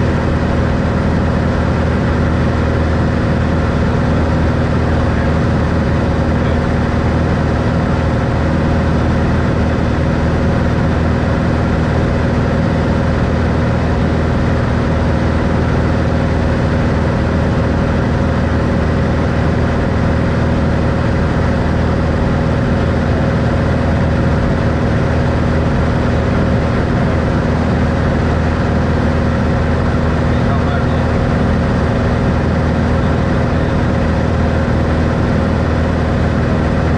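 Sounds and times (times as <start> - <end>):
airplane engine and propeller drone: 0.0 - 36.9.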